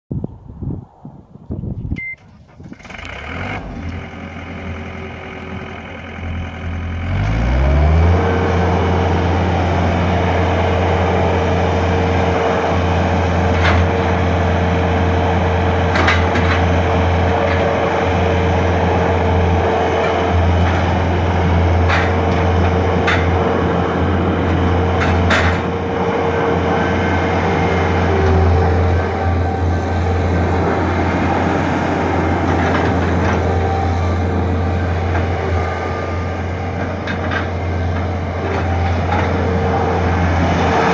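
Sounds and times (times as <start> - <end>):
diesel engine revving: 2.4 - 40.9.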